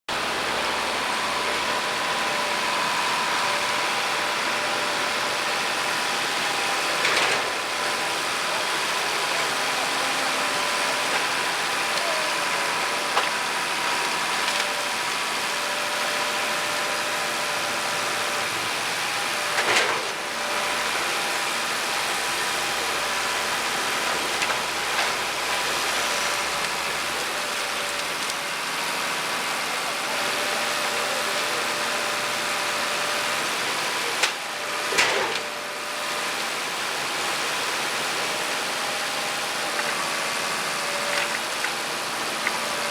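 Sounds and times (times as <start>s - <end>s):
grinder machine running: 0.1s - 42.9s.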